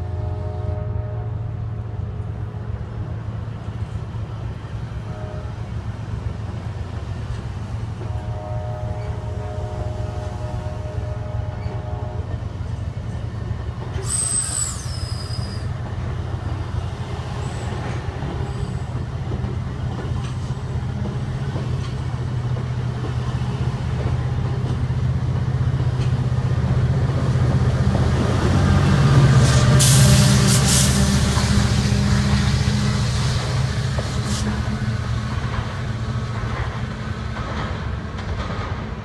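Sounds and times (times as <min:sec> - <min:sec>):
diesel locomotive drone: 0:00.0 - 0:39.0
train cars rolling past: 0:01.3 - 0:39.0.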